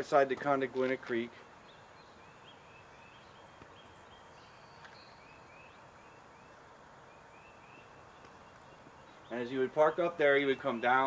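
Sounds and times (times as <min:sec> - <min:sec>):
low steady hiss: 0:00.0 - 0:11.0.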